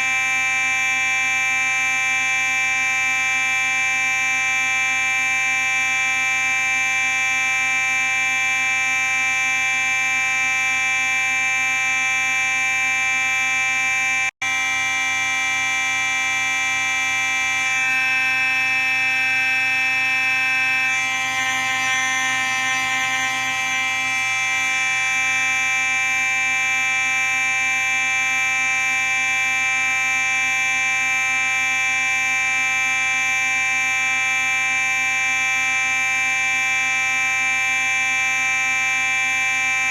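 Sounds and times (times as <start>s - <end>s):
fire alarm steady buzzing: 0.0s - 39.9s.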